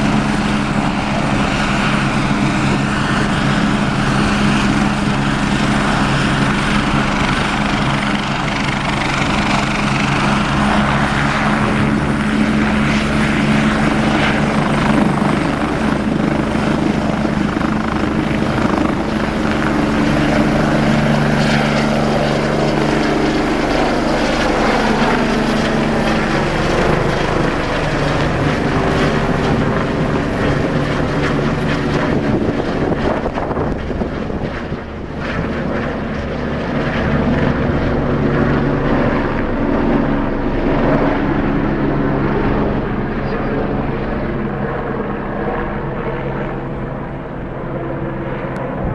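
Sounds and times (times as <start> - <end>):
helicopter rotor drone: 0.0 - 48.9
high turbine whine: 0.0 - 48.9.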